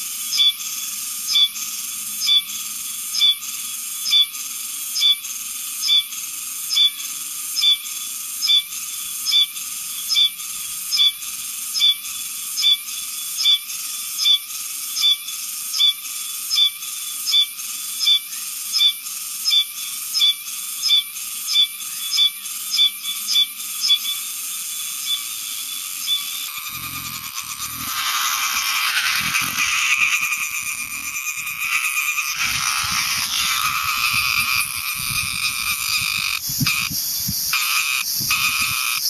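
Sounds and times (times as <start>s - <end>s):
cicada buzzing and rasping: 0.0s - 39.0s.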